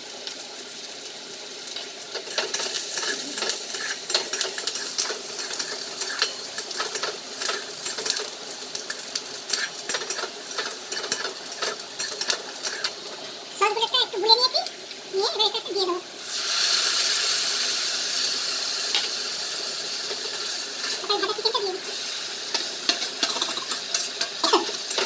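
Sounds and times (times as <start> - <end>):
frying sizzle: 0.0 - 25.0.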